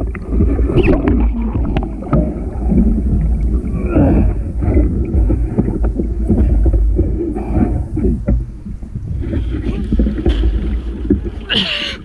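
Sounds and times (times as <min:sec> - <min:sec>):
heavy low rumble: 0:00.0 - 0:11.5
water splashing and sloshing: 0:00.0 - 0:12.0.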